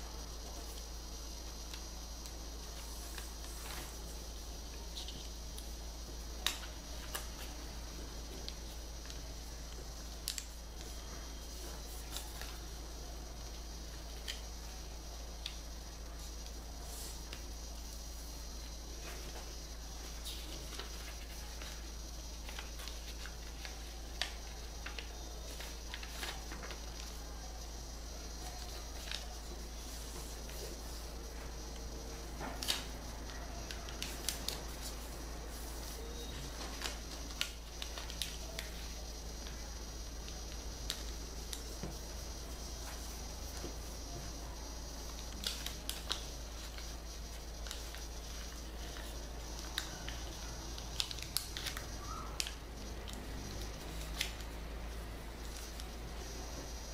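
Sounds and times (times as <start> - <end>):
low hum and hiss: 0.0 - 56.9
paper being folded: 0.5 - 12.8, 19.0 - 44.3, 45.0 - 56.7.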